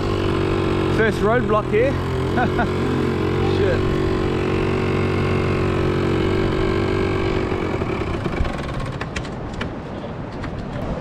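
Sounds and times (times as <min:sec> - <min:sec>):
motorbike engine running: 0:00.0 - 0:09.5.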